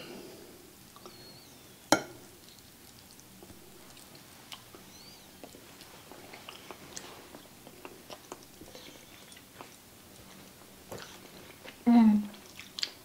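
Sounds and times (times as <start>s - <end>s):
soft chewing: 0.8s - 13.0s.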